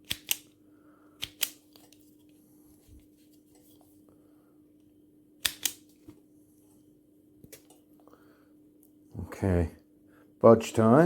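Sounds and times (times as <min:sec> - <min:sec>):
faint steady hum: 0:00.1 - 0:11.0.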